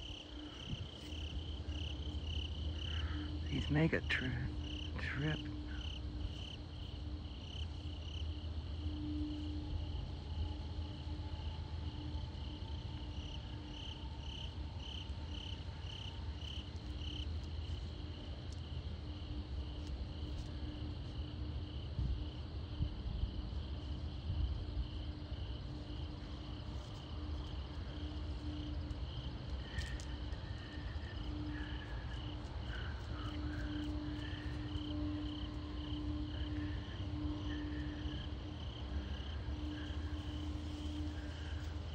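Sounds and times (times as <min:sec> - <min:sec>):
wind rumbling on microphone: 0:00.0 - 0:05.0, 0:05.8 - 0:41.9
faint low hum: 0:00.0 - 0:41.9
insects chirring: 0:00.0 - 0:41.9.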